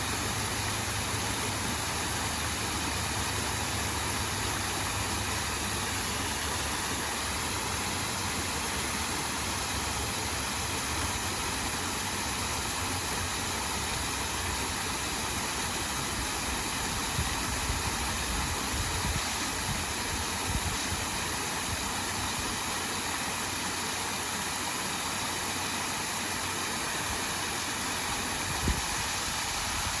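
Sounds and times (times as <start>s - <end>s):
waterfall splashing into pool: 0.0s - 30.0s.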